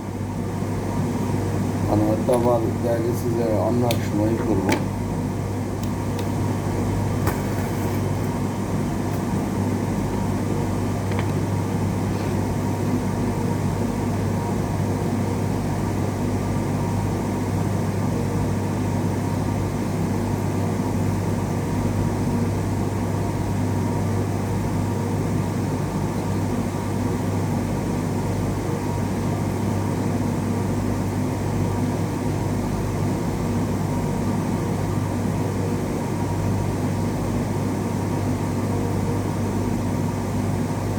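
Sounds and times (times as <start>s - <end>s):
blowing noise with low hum: 0.0s - 40.9s.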